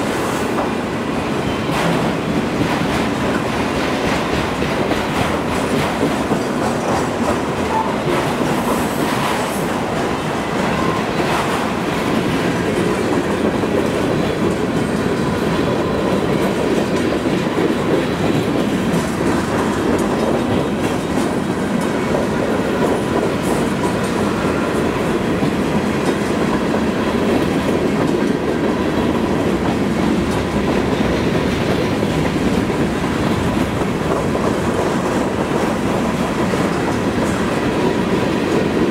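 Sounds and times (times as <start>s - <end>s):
train wheels rumbling on rails: 0.0s - 38.9s
wind noise on microphone: 0.0s - 38.9s.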